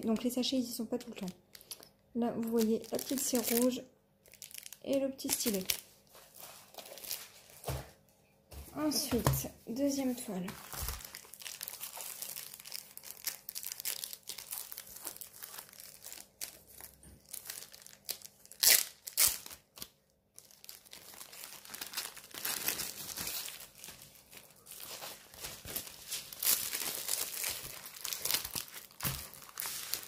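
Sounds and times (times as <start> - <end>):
plastic wrapping crinkling: 0.1 - 8.0, 9.9 - 30.0.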